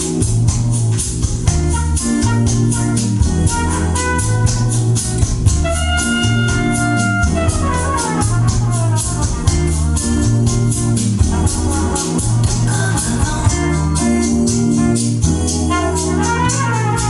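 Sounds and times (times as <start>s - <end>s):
organ-like keyboard chords: 0.0s - 17.0s
pulsing bass line: 0.0s - 17.0s
steady beat: 0.0s - 17.0s.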